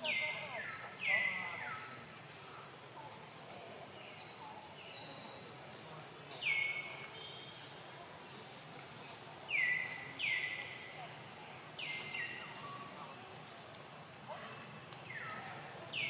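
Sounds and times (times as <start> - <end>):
forest birds calling: 0.0 - 7.7, 9.4 - 16.0
faint background hiss: 0.0 - 16.0.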